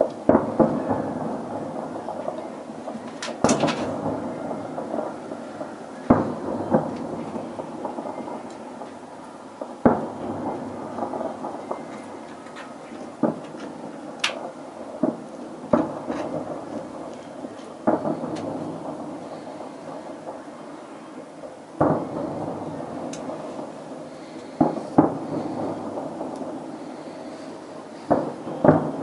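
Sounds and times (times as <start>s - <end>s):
distant fireworks booming: 0.0s - 29.0s
fireworks crackles: 0.0s - 29.0s.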